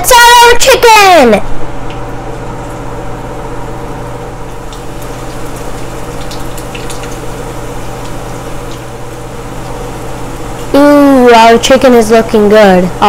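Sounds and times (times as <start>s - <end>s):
chicken deep-frying in oil: 1.8s - 13.0s.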